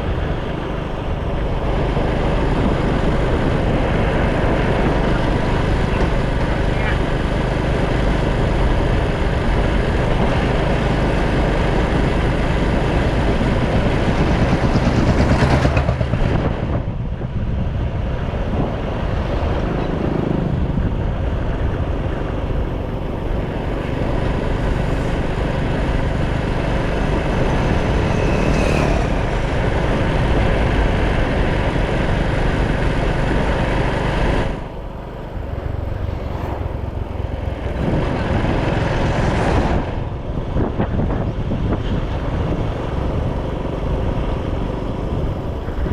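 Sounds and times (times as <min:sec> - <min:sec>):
wind noise on microphone: 0:00.0 - 0:45.9.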